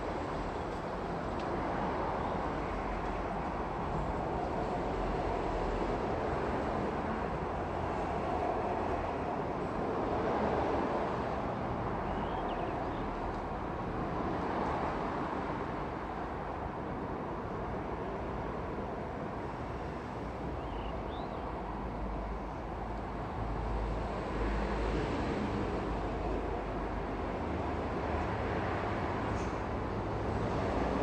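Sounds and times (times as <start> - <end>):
rumble of passing traffic: 0.0 - 31.0.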